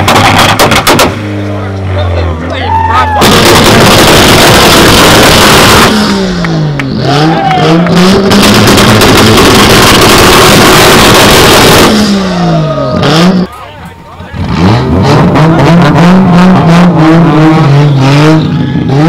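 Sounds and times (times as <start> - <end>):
dense noise: 0.0 - 6.8, 8.0 - 17.2
car engine revving high: 0.0 - 19.0.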